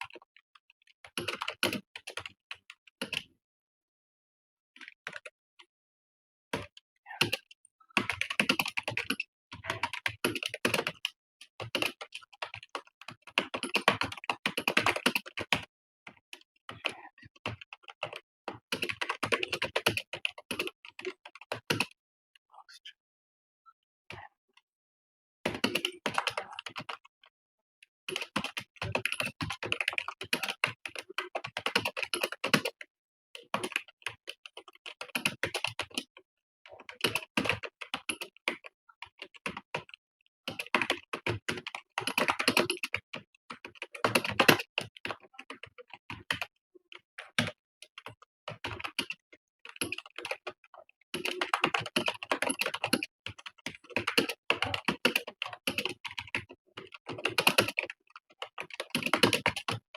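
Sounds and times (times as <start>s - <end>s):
fast typing on keyboard: 1.0s - 3.2s, 6.5s - 22.0s, 25.4s - 27.1s, 28.1s - 36.2s, 36.8s - 59.9s.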